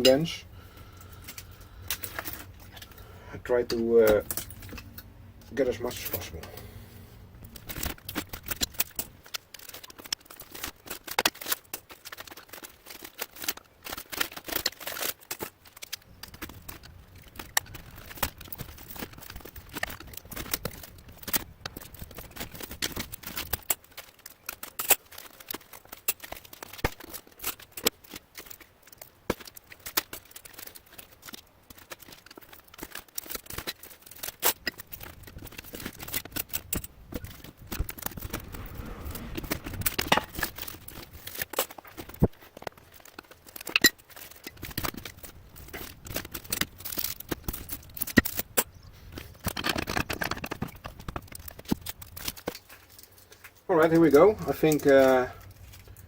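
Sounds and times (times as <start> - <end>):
metallic clicks and scrapes: 0.0 - 56.0.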